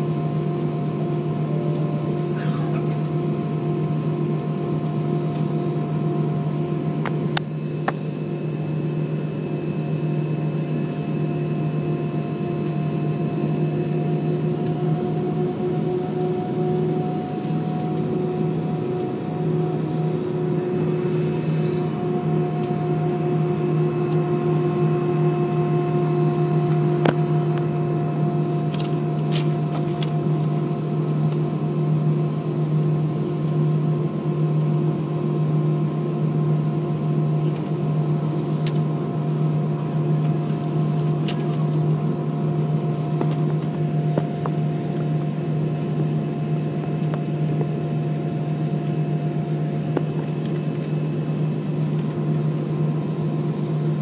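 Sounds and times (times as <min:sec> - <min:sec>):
airliner cabin hum: 0:00.0 - 0:54.0.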